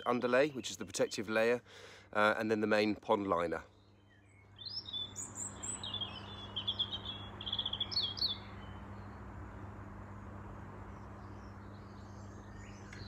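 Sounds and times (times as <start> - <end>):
songbird chirping and trilling: 0.0 - 1.6, 2.2 - 9.9, 10.6 - 13.0
steady low hum: 0.0 - 13.0.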